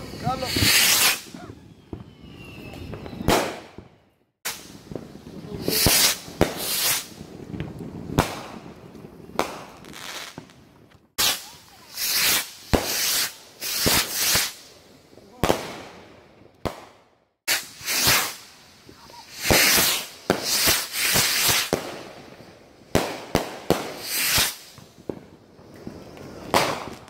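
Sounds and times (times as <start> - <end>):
fireworks hissing: 0.0 - 3.8, 4.4 - 8.7, 11.2 - 15.9, 17.5 - 27.0
fireworks bangs: 0.0 - 27.0.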